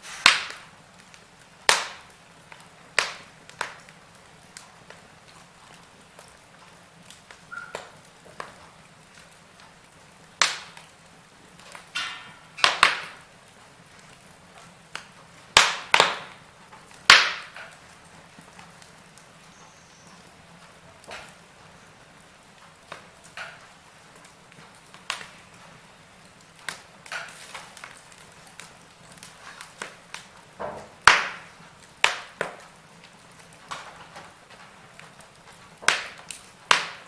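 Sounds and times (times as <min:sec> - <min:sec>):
soft steady hiss: 0:00.0 - 0:37.0
wood fire crackling: 0:00.0 - 0:37.0.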